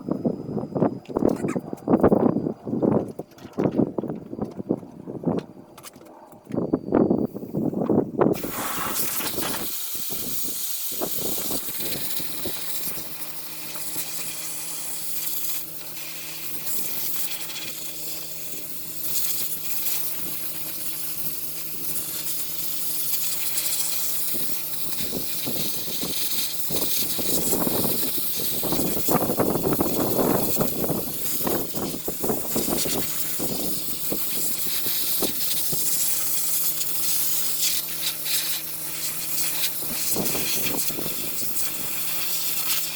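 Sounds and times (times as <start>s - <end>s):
compressed air hissing: 8.3s - 42.9s.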